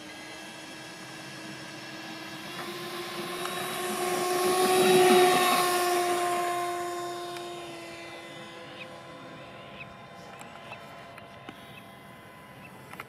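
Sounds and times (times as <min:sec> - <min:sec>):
model jet ducted fans whining: 0:00.0 - 0:13.0.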